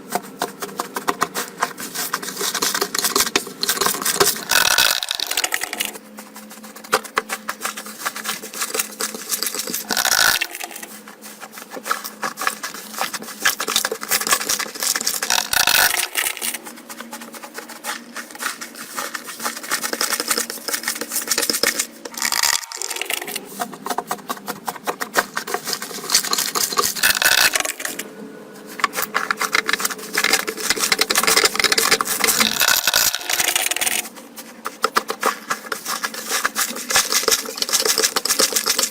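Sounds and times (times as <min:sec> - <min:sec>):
slime squelch: 0:00.0 - 0:38.9.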